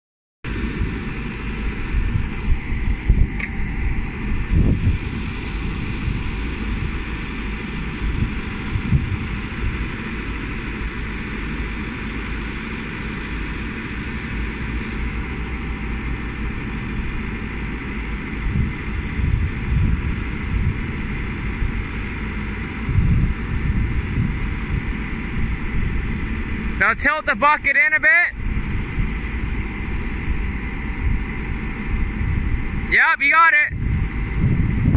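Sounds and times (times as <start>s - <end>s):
diesel engine running: 0.4s - 34.9s
wind rumbling on microphone: 0.5s - 27.4s, 28.3s - 33.0s, 33.7s - 34.9s.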